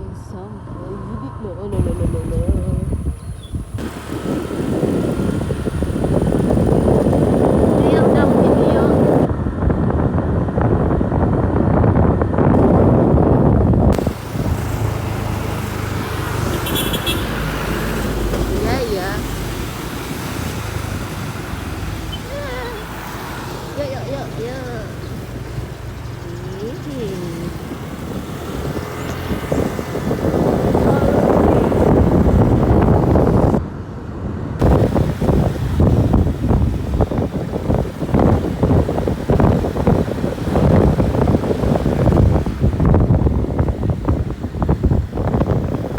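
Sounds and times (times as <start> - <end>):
road traffic: 0.0 - 45.9
vehicle running noise: 0.0 - 45.9
wind buffeting microphone: 0.0 - 45.9.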